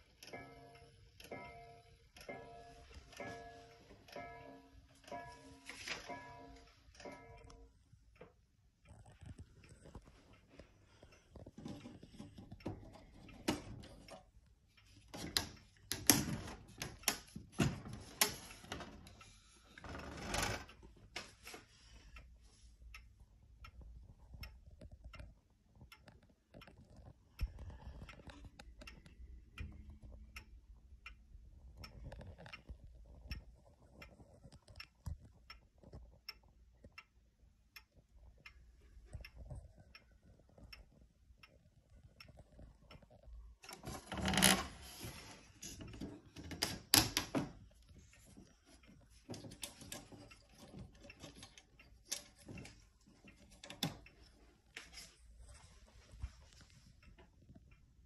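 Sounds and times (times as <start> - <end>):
wall clock ticking: 0.0 - 58.0.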